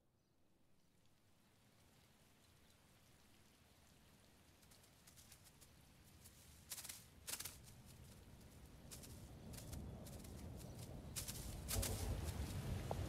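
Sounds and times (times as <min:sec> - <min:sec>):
faint patter and rustling: 0:00.7 - 0:13.0.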